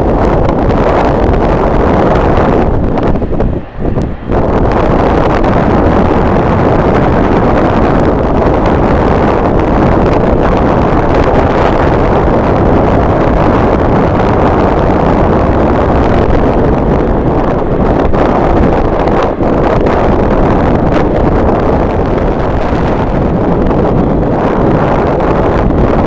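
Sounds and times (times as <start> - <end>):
strong wind on microphone: 0.0 - 26.0.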